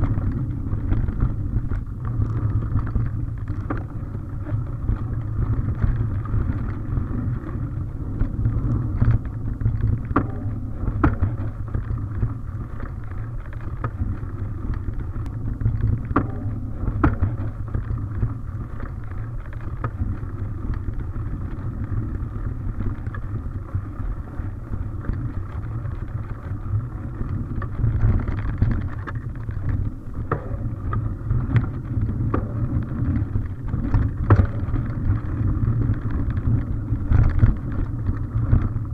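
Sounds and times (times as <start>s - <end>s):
bike knocking and rattling: 0.0s - 38.9s
bike tyres rumbling on dirt trail: 0.0s - 38.9s
wind on microphone: 0.0s - 38.9s.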